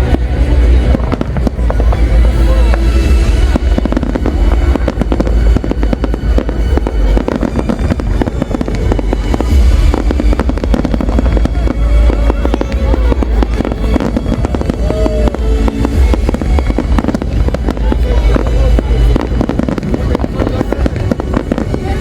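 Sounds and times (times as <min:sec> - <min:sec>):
fireworks bangs and crackles: 0:00.0 - 0:22.0
low rumble: 0:00.0 - 0:22.0.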